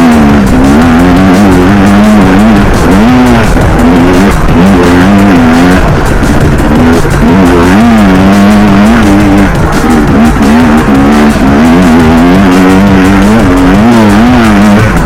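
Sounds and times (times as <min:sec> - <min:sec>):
quad engine revving: 0:00.0 - 0:15.0.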